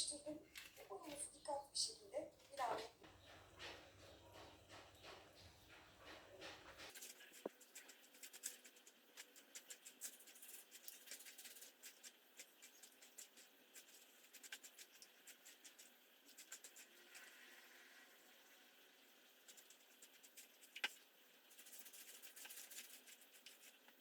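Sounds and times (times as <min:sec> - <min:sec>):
dough being kneaded in a bowl: 0:02.3 - 0:24.0.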